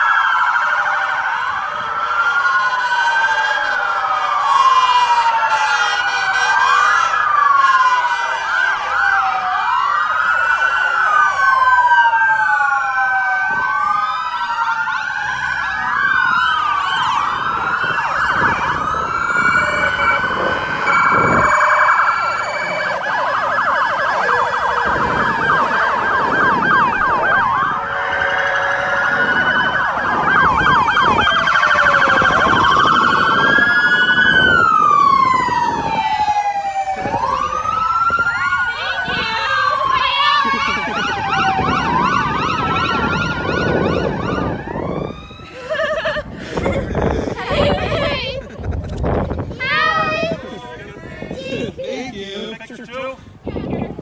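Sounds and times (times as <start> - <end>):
emergency sirens wailing: 0.0 - 54.0.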